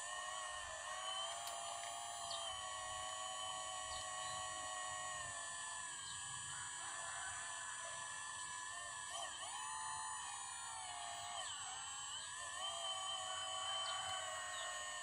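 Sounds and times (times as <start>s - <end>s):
hydraulic pump whine: 0.0s - 15.0s.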